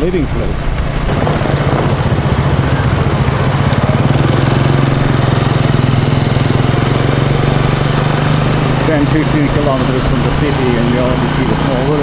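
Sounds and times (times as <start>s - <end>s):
vehicle engine running: 0.8s - 12.0s.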